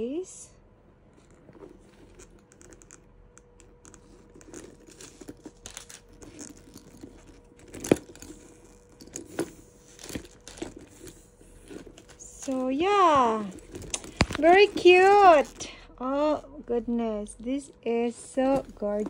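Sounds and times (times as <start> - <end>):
leather handbag rustling and clicking: 0.9 - 19.0.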